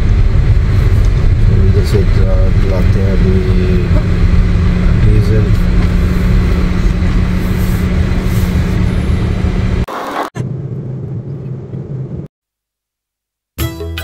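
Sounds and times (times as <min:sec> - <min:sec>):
vehicle engine running: 0:00.0 - 0:12.3.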